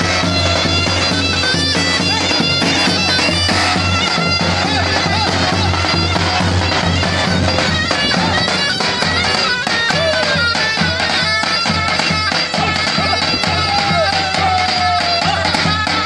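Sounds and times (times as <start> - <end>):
shrill reedy pipe melody: 0.0 - 16.0.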